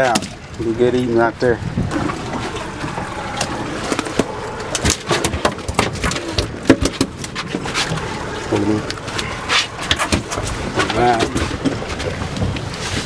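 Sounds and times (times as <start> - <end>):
sea: 0.0 - 13.0
wind: 0.0 - 13.0.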